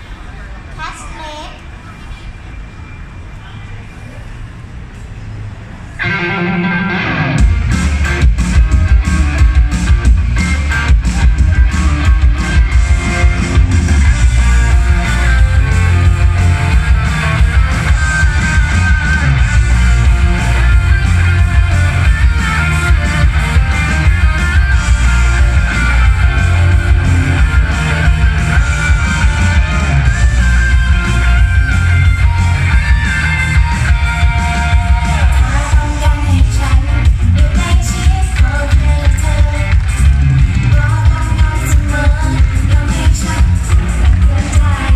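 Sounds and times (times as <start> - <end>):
pop song over loudspeakers: 6.0 - 44.9
heavy bass beat: 7.4 - 44.9.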